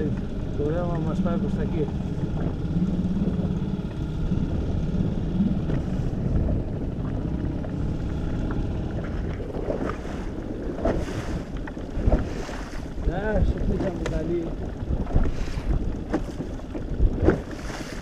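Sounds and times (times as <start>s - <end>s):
outboard motor: 0.0s - 18.0s
water rushing along hull: 0.0s - 18.0s
wind on microphone: 0.0s - 18.0s.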